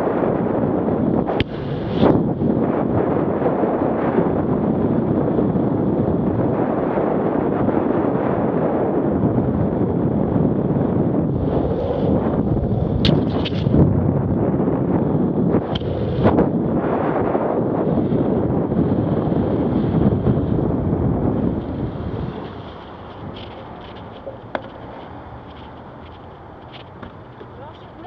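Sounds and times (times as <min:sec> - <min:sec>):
wheels rumbling on road: 0:00.0 - 0:28.0
wind buffeting microphone: 0:00.0 - 0:28.0.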